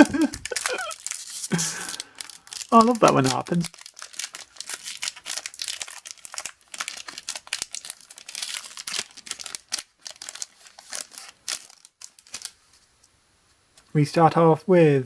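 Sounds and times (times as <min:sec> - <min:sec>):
plastic wrapper crinkling: 0:00.0 - 0:12.8.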